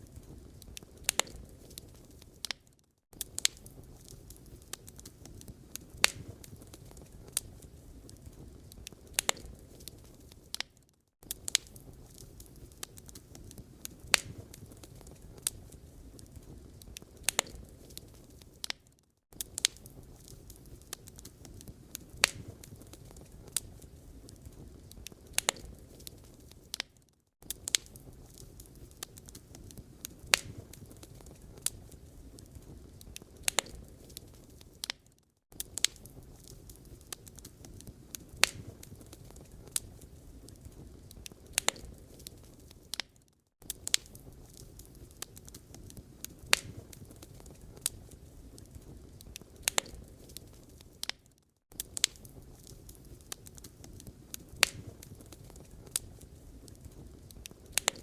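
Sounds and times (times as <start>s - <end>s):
low rumble of flames: 0.0s - 43.0s, 43.6s - 51.1s, 51.7s - 58.0s
wood fire crackling: 0.0s - 58.0s.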